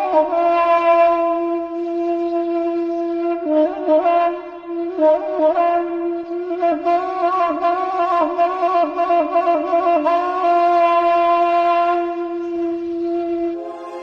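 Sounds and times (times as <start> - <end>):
reed wind instrument melody: 0.0 - 14.0.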